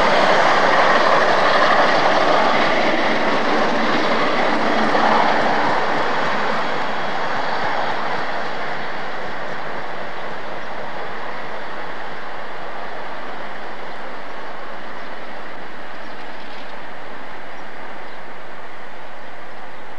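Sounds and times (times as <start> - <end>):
diesel locomotive: 0.0 - 19.9
train coaches rolling past: 0.0 - 19.9.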